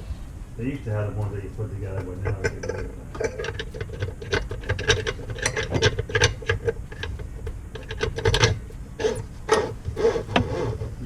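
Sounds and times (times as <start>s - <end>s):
faucet hose clicking and rattling: 1.2s - 11.0s.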